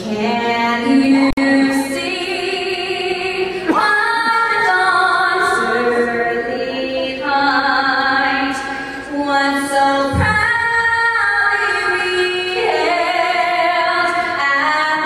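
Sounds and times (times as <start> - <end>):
woman singing into a microphone: 0.0 - 15.0.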